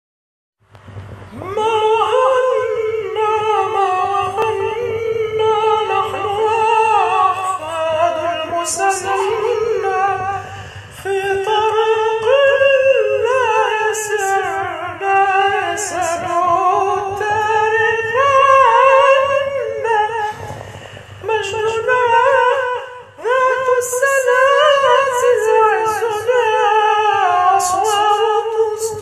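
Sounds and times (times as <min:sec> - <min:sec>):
man singing: 0:01.3 - 0:29.0.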